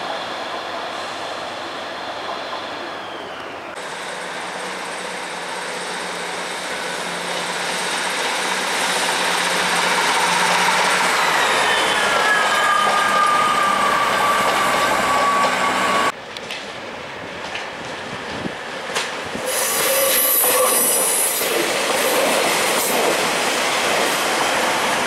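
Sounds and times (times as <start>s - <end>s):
diesel train passing: 0.0s - 25.0s.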